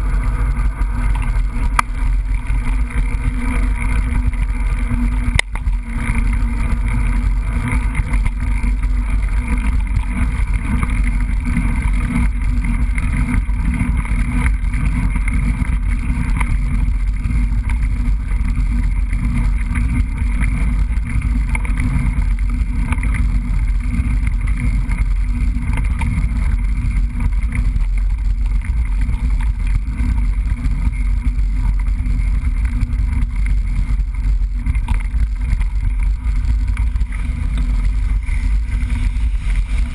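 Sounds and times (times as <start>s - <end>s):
bike knocks and rattles: 0.0s - 39.9s
bike riding rumble and wind: 0.0s - 39.9s.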